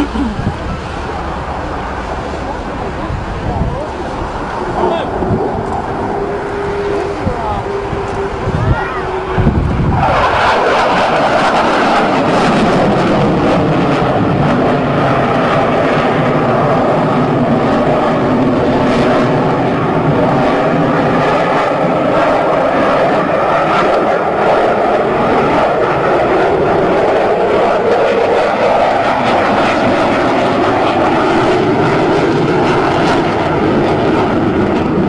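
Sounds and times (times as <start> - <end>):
jet engine roar: 0.0 - 35.0.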